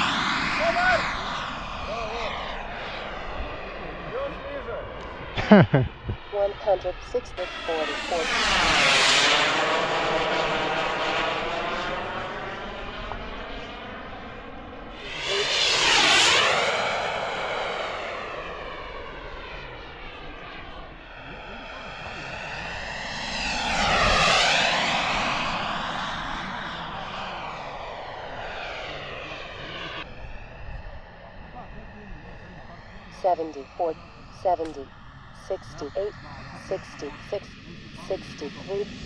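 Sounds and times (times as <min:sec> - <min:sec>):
jet turbine whine: 0:00.0 - 0:39.0.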